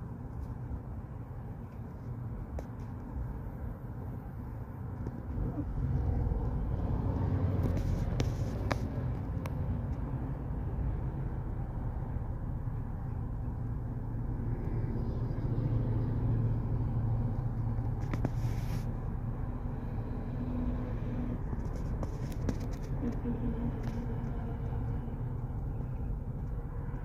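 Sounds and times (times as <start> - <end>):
road traffic rumble: 0.0 - 27.0
vehicle idling: 0.0 - 27.0.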